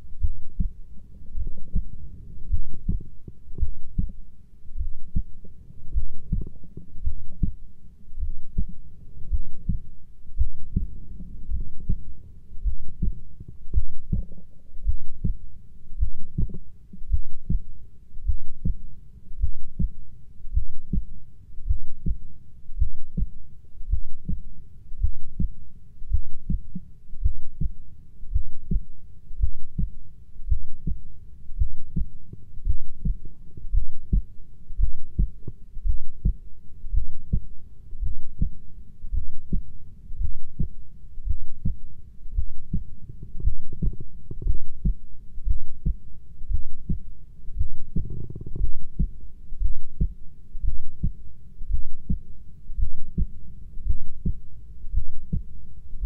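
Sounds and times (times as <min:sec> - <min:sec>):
heartbeat thumps: 0:00.1 - 0:55.5.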